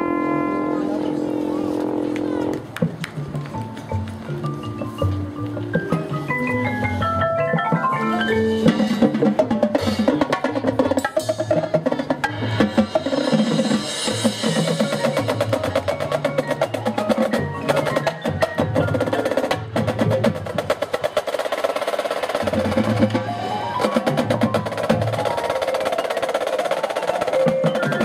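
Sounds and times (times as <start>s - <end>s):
drums playing fast rhythms: 2.6s - 28.0s
mallet keyboards running notes: 3.2s - 20.4s, 22.4s - 28.0s.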